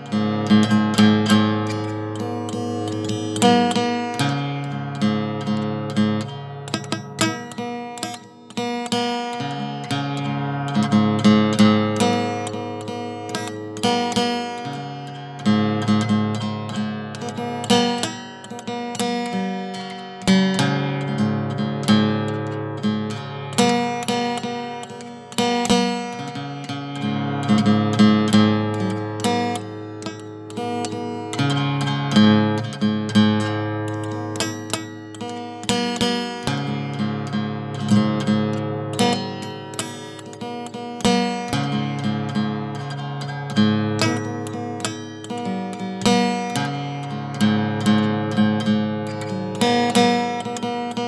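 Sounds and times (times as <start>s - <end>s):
acoustic guitar music: 0.0s - 51.0s.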